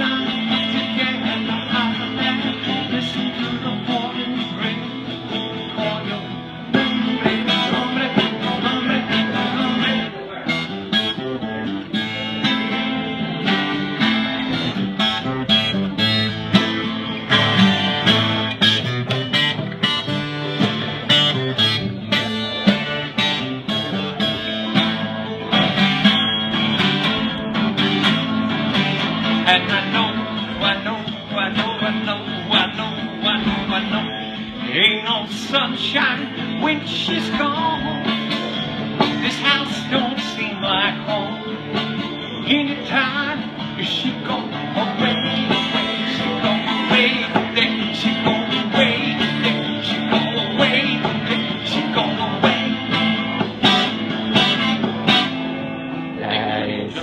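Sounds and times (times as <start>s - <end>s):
acoustic guitar strummed and picked: 0.0s - 57.0s.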